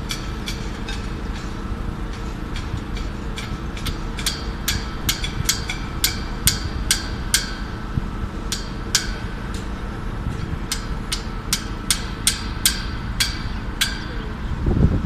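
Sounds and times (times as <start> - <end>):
traffic and machinery rumble: 0.0 - 15.0.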